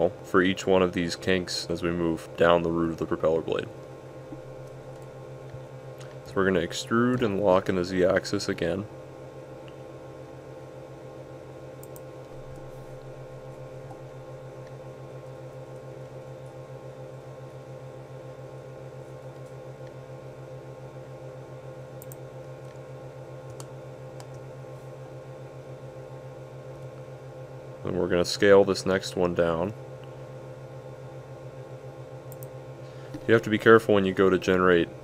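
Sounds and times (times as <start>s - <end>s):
low electrical hum with flutter: 0.0s - 35.0s.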